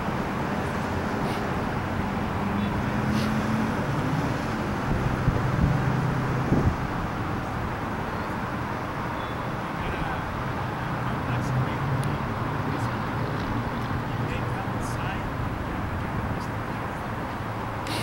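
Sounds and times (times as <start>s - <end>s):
road traffic hum: 0.0s - 18.0s.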